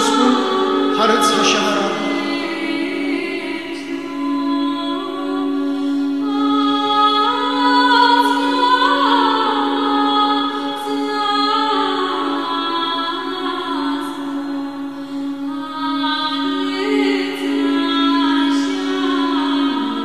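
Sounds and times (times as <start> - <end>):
choir chanting with drone: 0.0 - 20.0.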